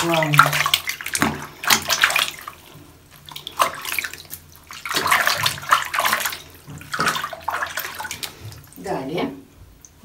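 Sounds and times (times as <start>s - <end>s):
water splashing in a plastic basin: 0.0s - 9.0s.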